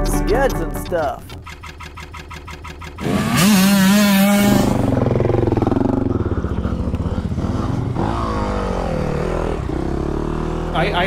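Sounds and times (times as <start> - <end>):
dirt bike engines running: 1.3 - 11.0.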